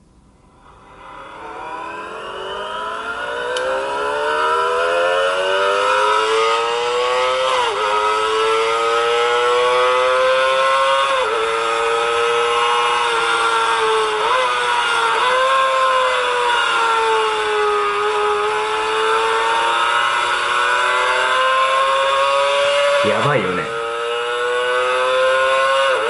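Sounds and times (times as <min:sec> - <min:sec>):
motorcycle engine revving high: 0:00.6 - 0:26.0.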